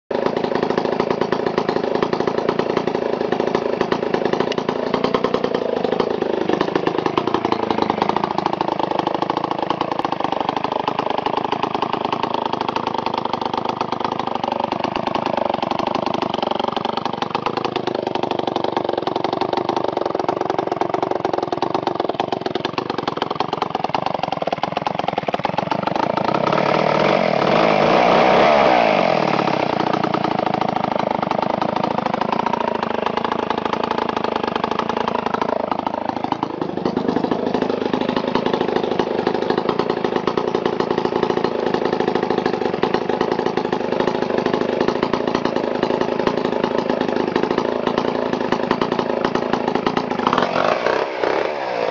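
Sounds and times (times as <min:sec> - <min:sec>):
chainsaw engine idling: 0:00.1 - 0:51.9.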